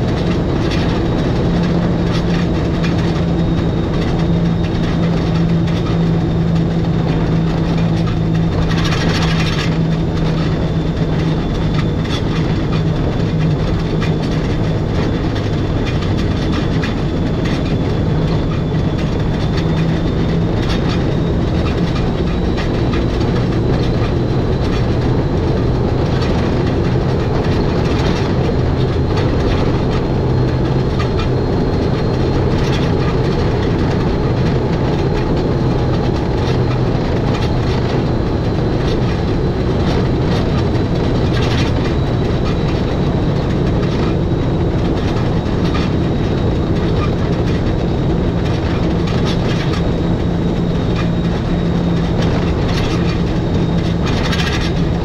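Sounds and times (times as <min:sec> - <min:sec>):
electric train hum: 0:00.0 - 0:55.0
train running-gear noise: 0:00.0 - 0:55.0.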